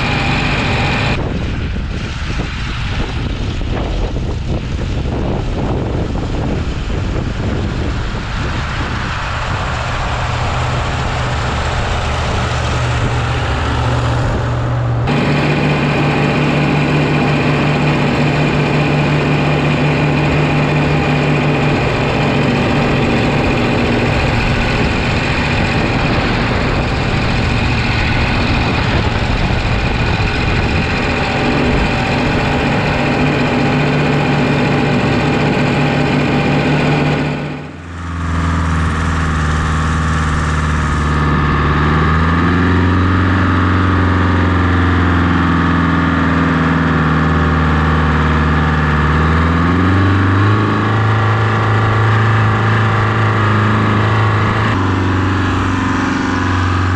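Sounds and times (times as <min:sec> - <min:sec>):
diesel tractor engine running: 0:00.0 - 0:56.9.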